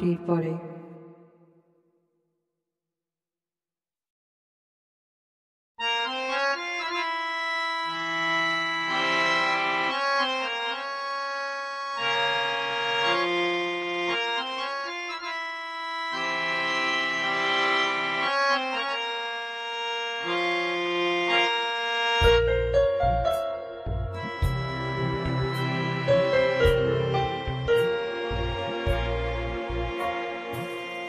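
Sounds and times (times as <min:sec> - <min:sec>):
organ-like keyboard chords: 0:05.8 - 0:31.0.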